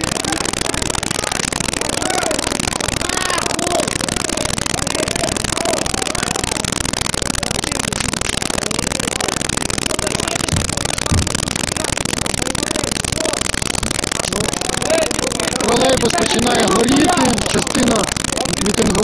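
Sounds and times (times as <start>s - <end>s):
faint voices: 0.0s - 19.0s
loud recording noise: 0.0s - 19.0s.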